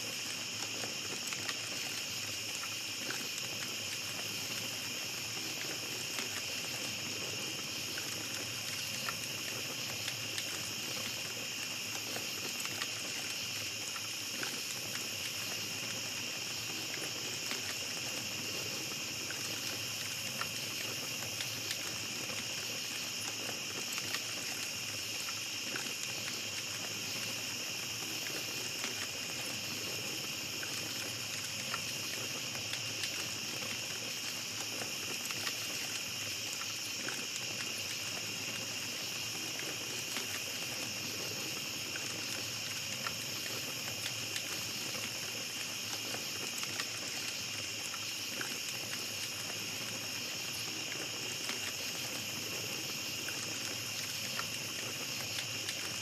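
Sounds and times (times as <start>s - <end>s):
campfire crackling: 0.0s - 56.0s
night insects chirping: 0.0s - 56.0s.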